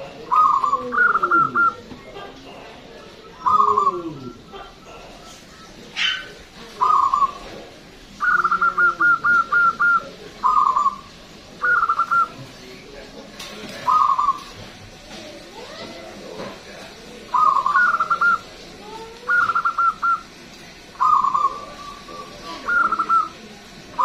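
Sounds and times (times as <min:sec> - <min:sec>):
dove cooing: 0:00.0 - 0:12.4, 0:13.8 - 0:14.6, 0:17.1 - 0:24.0.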